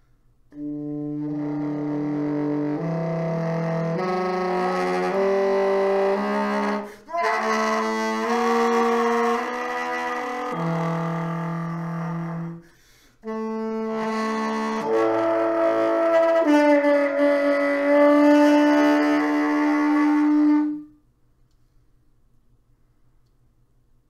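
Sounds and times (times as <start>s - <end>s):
tenor saxophone: 0.5s - 21.1s.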